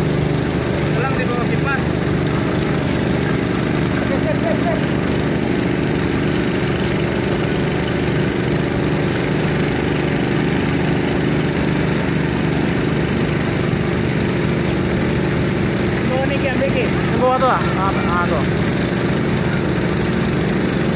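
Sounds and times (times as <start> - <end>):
engine running steadily: 0.0 - 20.9
water spraying from fire hose: 0.0 - 20.9.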